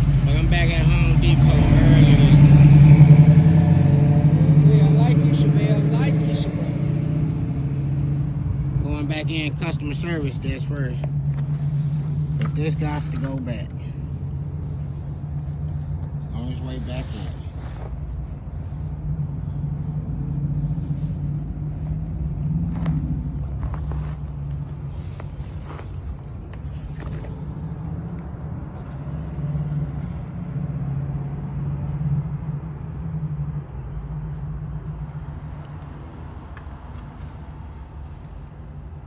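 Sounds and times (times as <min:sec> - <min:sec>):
car engine rumble: 0:00.0 - 0:39.0
road noise: 0:00.0 - 0:39.0.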